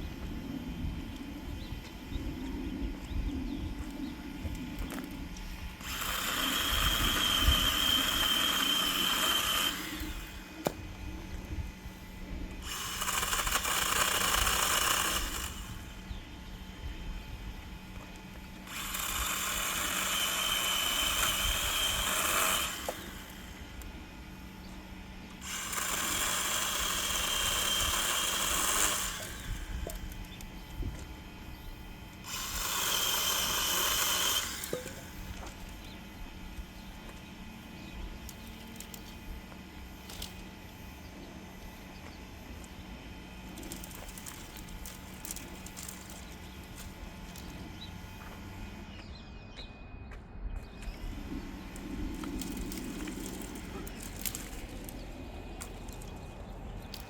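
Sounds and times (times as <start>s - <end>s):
electric chainsaw whining: 3.7s - 49.3s, 50.7s - 57.0s.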